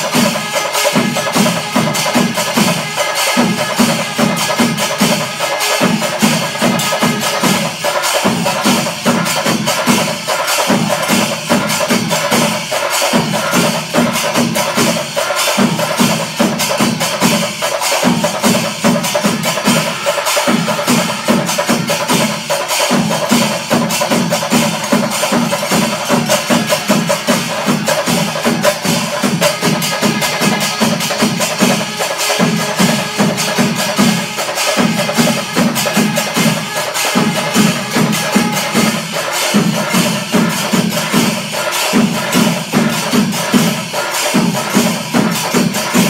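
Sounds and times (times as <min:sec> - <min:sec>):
cymbals: 0:00.0 - 0:46.0
massed drums in fast rhythm: 0:00.0 - 0:46.0.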